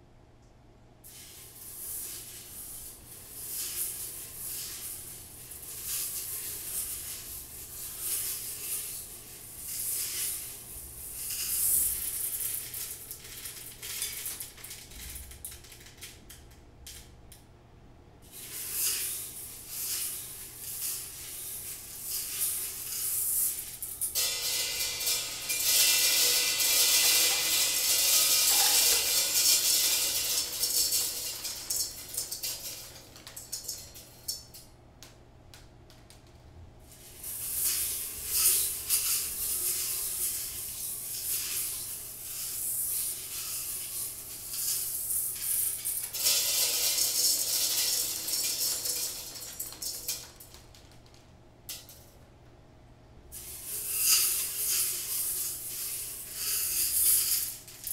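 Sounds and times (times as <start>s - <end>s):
seeds pattering on cymbal: 1.0s - 15.7s, 18.3s - 34.6s, 36.9s - 52.0s, 53.4s - 57.9s
seeds rattling in glass bowl: 1.1s - 16.2s, 18.3s - 34.6s, 36.9s - 52.0s, 53.4s - 57.9s.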